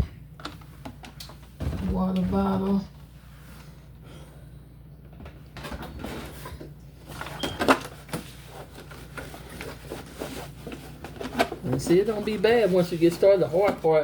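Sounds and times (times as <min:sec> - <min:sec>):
refrigerator hum: 0:00.0 - 0:14.0.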